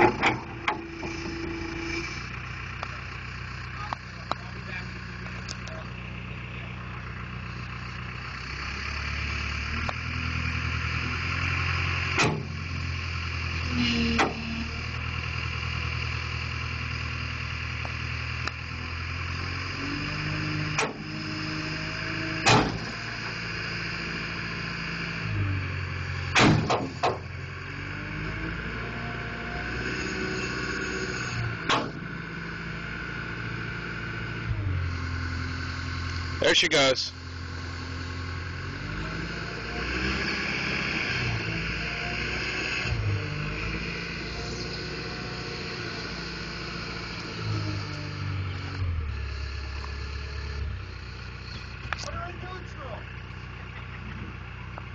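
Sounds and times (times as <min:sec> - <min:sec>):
diesel engine revving under load: 0:00.0 - 0:54.9.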